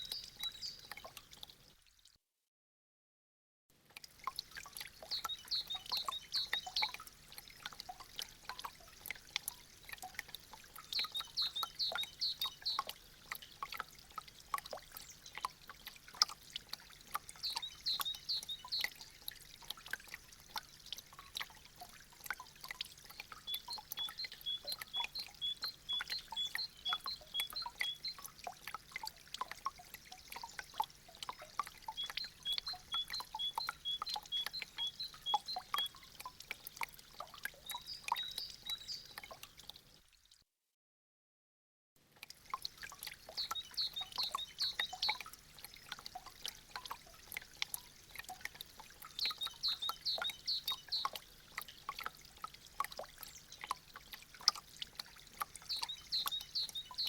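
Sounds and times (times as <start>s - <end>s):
water dripping from icicles: 0.0s - 2.2s, 3.7s - 40.5s, 42.0s - 57.0s.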